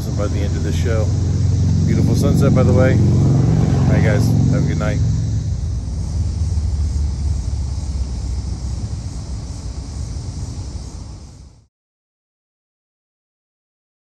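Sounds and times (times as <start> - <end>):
vehicle engine rumbling: 0.0 - 11.7.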